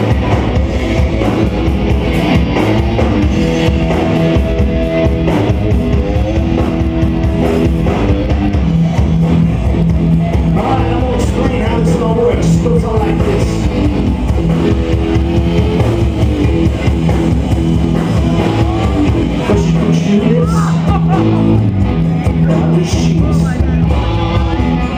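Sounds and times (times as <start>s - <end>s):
lead guitar line: 0.0s - 24.9s
rock band playing: 0.0s - 24.9s.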